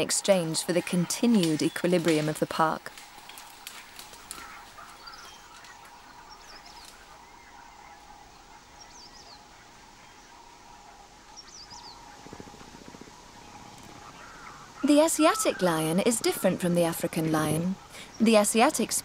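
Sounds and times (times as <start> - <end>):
faint open-air ambience: 0.0 - 19.0.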